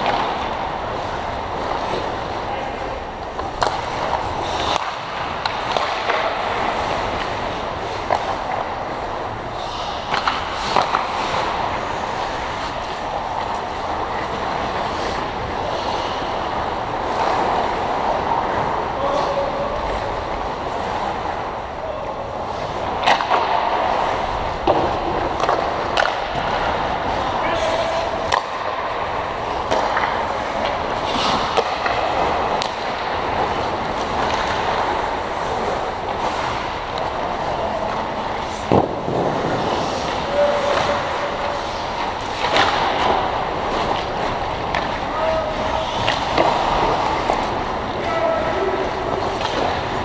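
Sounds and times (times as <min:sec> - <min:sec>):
skates scraping on ice: 0:00.0 - 0:21.6, 0:22.4 - 0:50.0
hockey stick clacking on puck: 0:03.2 - 0:18.3, 0:23.0 - 0:37.2, 0:37.9 - 0:48.0, 0:49.0 - 0:50.0.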